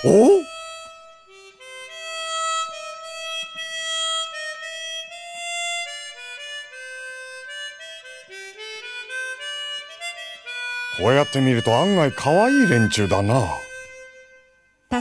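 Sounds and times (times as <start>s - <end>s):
harmonica melody: 0.0s - 15.0s.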